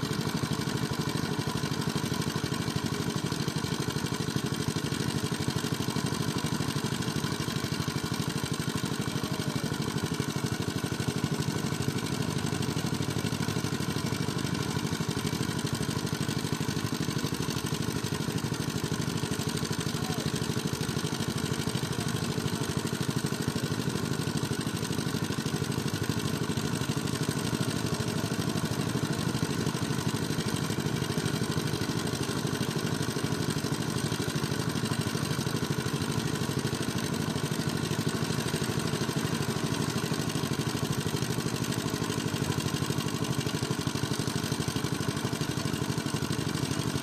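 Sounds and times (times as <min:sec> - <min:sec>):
water pump engine running: 0:00.0 - 0:47.0.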